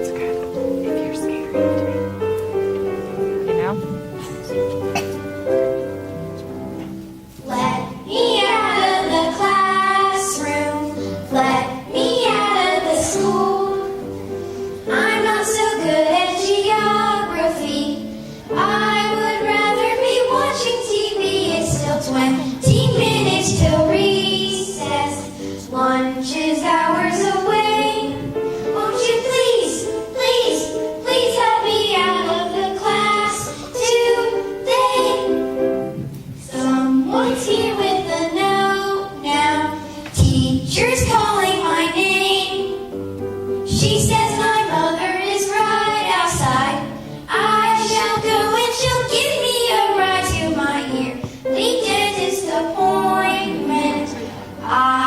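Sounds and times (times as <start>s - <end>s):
music: 0.0s - 55.0s
children singing: 7.4s - 35.8s, 36.4s - 42.8s, 43.7s - 55.0s.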